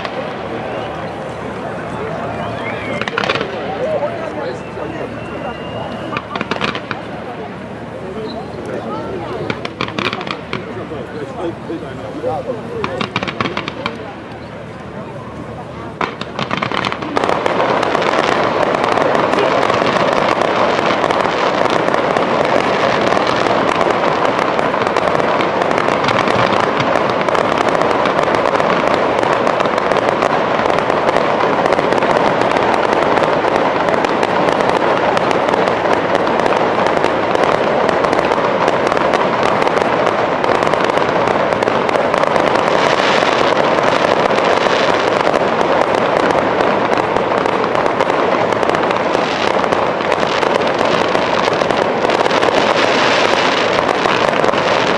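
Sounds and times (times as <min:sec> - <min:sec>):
fireworks crackling and popping: 0:00.0 - 0:54.9.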